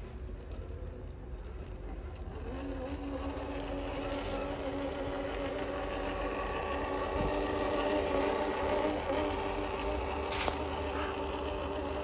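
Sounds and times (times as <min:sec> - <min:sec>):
toy truck electric motor whining: 0:01.5 - 0:12.0.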